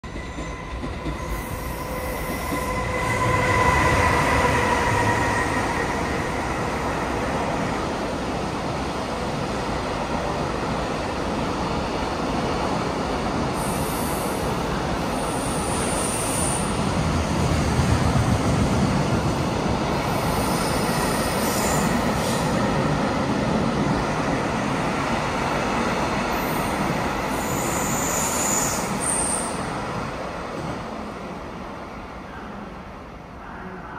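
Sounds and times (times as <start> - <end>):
electric locomotive whine: 0.0 - 30.8.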